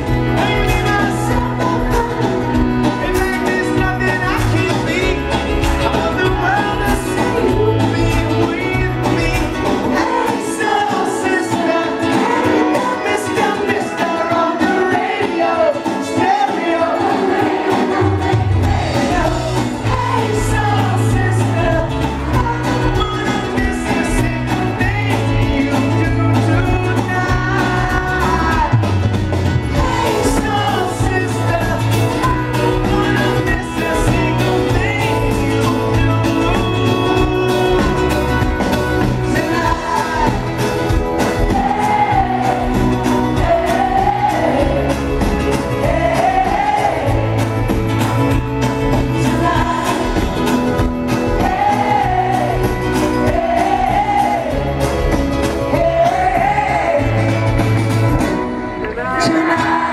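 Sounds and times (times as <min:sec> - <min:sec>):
live pop-rock band: 0:00.0 - 0:59.9
man singing lead vocal: 0:00.0 - 0:59.9.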